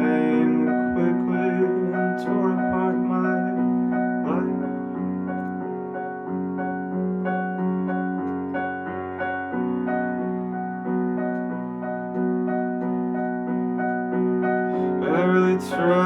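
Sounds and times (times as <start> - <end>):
keyboard chords: 0.0 - 16.0.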